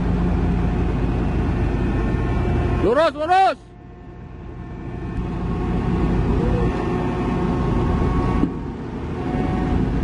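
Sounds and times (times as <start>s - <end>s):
diesel roller engine running: 0.0s - 10.0s.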